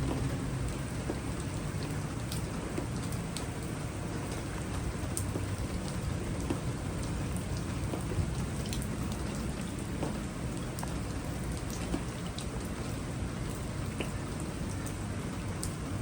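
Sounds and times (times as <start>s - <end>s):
raindrop hits: 0.0s - 15.0s
heavy rain pouring: 0.0s - 16.0s.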